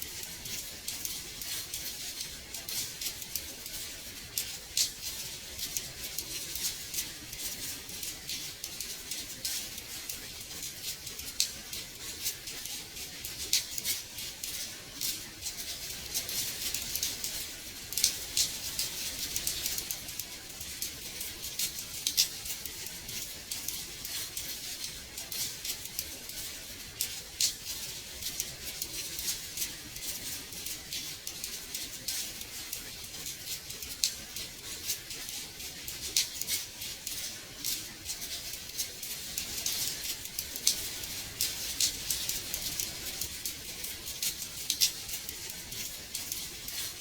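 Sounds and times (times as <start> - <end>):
steady hiss of falling rain: 0.0 - 47.0.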